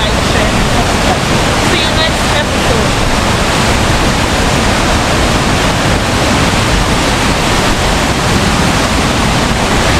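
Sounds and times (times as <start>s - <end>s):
water rushing: 0.0s - 9.9s.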